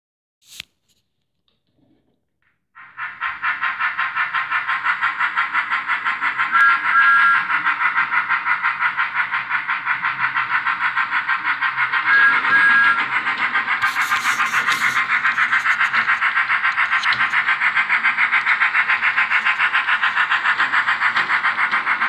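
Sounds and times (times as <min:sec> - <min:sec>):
toy train steam chuffing: 0:02.8 - 0:22.0.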